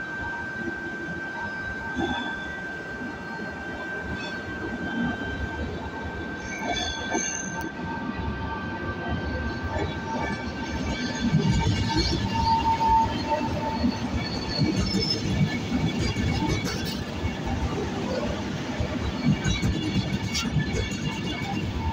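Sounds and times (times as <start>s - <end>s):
electric train arriving: 0.0s - 21.9s
train wheel squeal: 0.0s - 21.9s.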